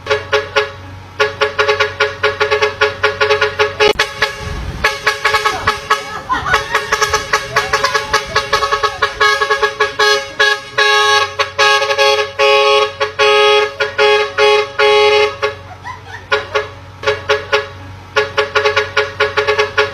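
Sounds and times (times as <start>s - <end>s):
musical air horns playing tune: 0.0s - 15.7s, 16.3s - 19.9s.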